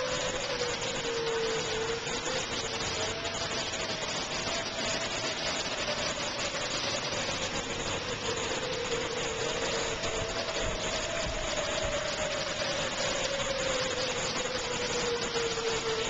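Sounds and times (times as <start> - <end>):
heavy rain pouring: 0.0 - 16.0
storm warning siren droning: 0.0 - 16.0.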